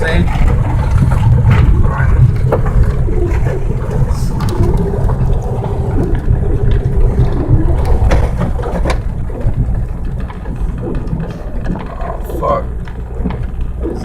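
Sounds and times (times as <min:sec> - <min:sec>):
car engine and tyres rumbling: 0:00.0 - 0:14.0
faint whine: 0:00.0 - 0:14.0.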